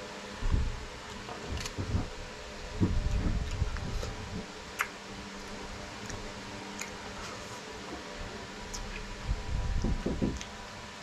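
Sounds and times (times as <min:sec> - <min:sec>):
fan hum: 0:00.0 - 0:11.0.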